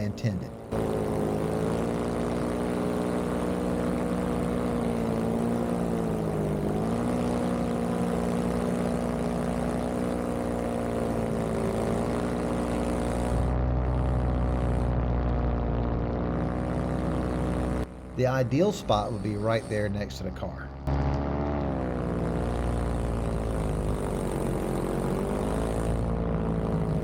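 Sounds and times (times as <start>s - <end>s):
paramotor engine buzzing drone: 0.0s - 27.0s.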